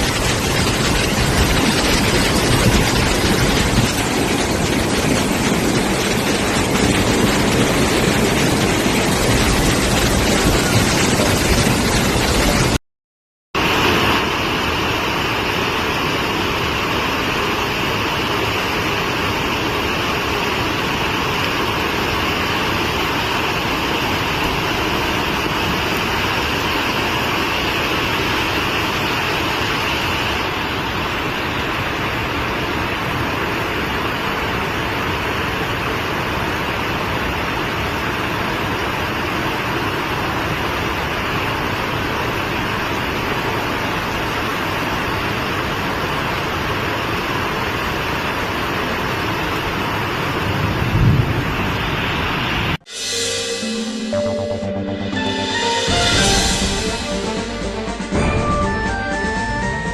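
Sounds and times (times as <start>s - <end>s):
floodwater roaring: 0.0s - 12.8s, 13.6s - 52.8s.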